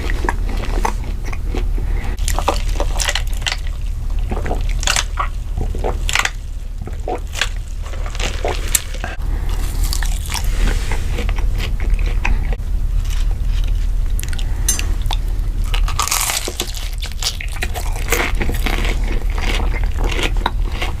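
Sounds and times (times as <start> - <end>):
crunchy chewing: 0.0 - 21.0
steady low hum: 0.0 - 21.0.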